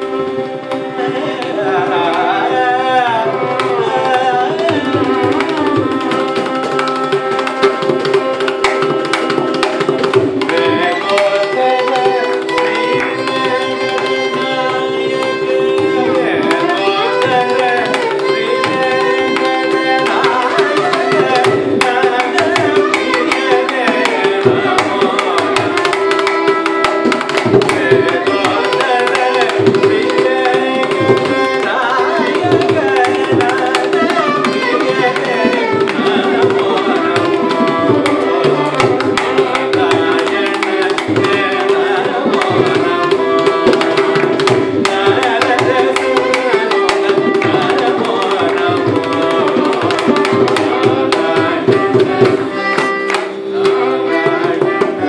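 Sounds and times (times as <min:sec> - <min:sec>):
hand drum: 0:00.0 - 0:55.0
man singing: 0:00.0 - 0:55.0
violin: 0:00.0 - 0:55.0.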